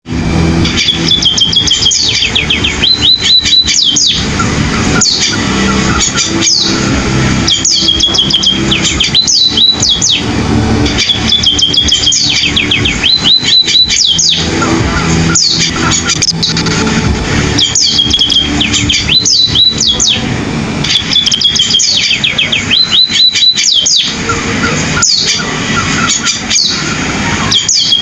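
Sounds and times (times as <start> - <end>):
steady low hum: 0.0 - 27.7
munia singing: 0.1 - 28.0.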